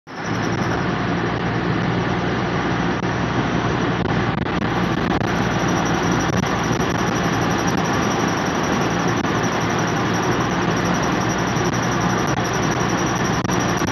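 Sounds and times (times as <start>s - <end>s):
car road noise: 0.1s - 13.9s
high brake whine: 0.1s - 13.9s.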